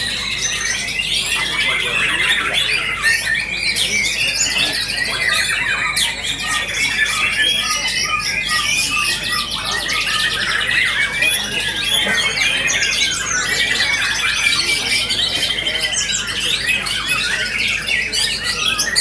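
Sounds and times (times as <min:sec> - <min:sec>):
birds singing in chorus: 0:00.0 - 0:19.0.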